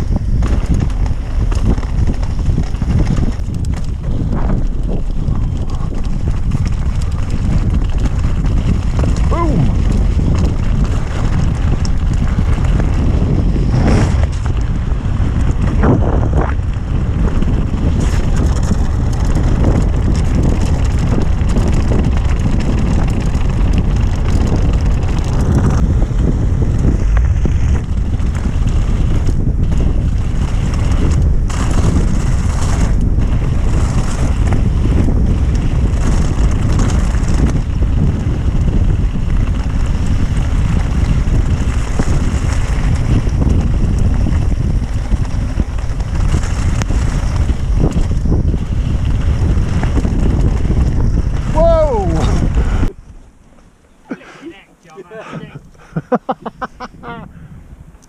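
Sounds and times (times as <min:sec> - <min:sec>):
bike rumbling over rough trail: 0:00.0 - 0:58.0
wind on microphone: 0:00.0 - 0:58.0.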